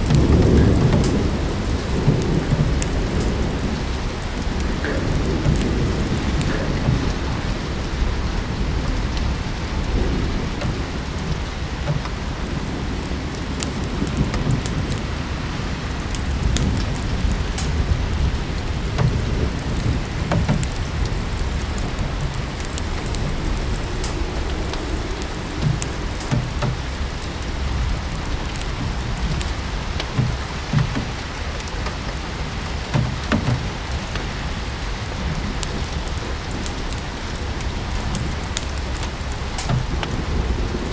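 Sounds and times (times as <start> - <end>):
steady rain hiss: 0.0 - 40.9
wood fire crackling: 0.0 - 40.9.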